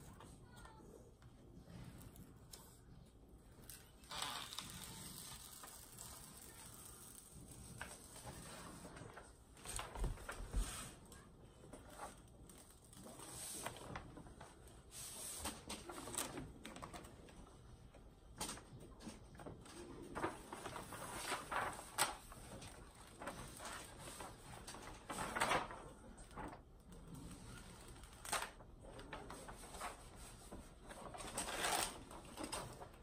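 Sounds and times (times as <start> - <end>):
paper rustling and crinkling: 3.6 - 33.0.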